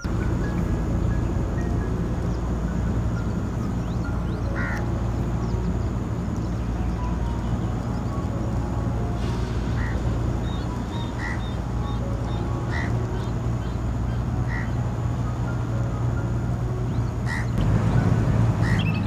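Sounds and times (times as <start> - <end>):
high chirps: 0.0 - 19.0
steady low hum: 0.0 - 19.0
water birds calling: 0.0 - 19.0.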